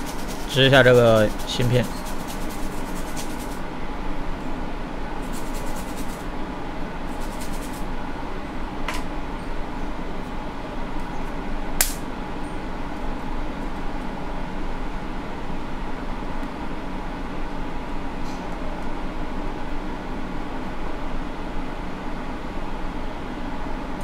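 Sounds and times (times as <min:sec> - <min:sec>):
bench machine fan whirring: 0:00.0 - 0:24.0.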